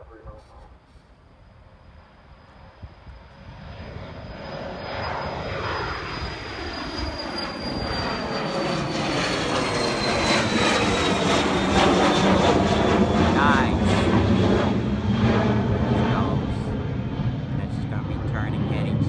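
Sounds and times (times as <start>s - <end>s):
high engine whine: 0.0s - 19.0s
jet engines at takeoff: 0.0s - 19.0s.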